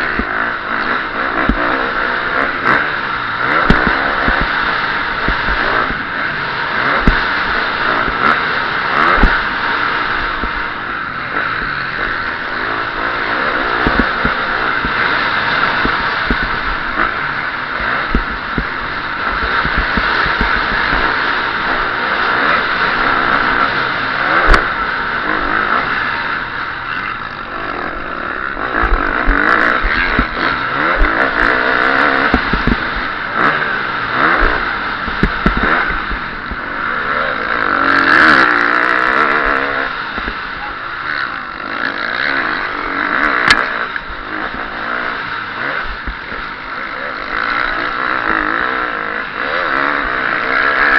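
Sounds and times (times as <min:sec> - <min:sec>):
motocross engine revving: 0:00.0 - 0:50.9
steady rush of noise: 0:00.0 - 0:50.9.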